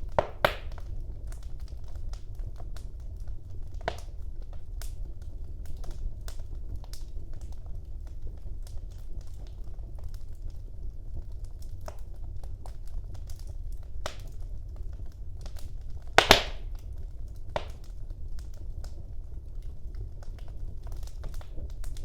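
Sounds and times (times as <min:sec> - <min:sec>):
burning wood crackling and popping: 0:00.0 - 0:22.0
fire flames rumbling: 0:00.0 - 0:22.0.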